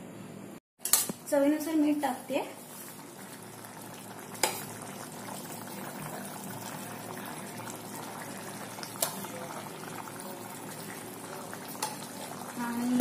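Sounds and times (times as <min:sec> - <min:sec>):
gravy bubbling in a pan: 0:01.9 - 0:13.0.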